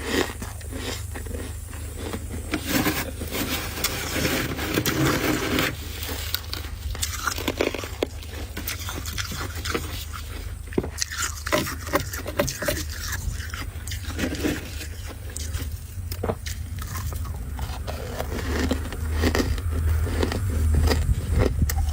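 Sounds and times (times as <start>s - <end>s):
frost chunks crunching: 0.0s - 21.9s
steady low hum: 0.0s - 21.9s.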